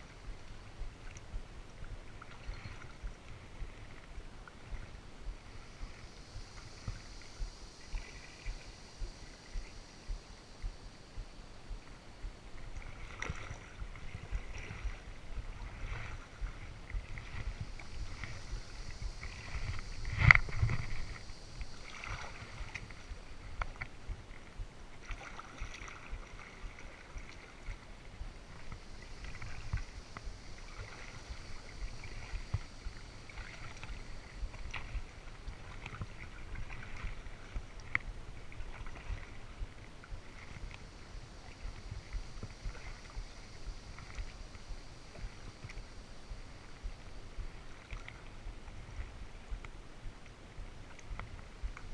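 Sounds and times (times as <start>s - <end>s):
low wind rumble: 0.0s - 51.9s
paddle splashing in water: 0.0s - 51.9s.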